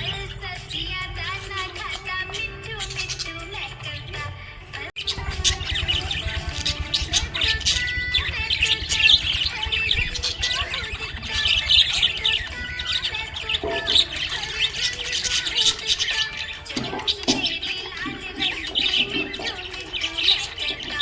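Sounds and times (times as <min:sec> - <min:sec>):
budgerigars chirping: 0:00.0 - 0:04.2, 0:05.0 - 0:21.0.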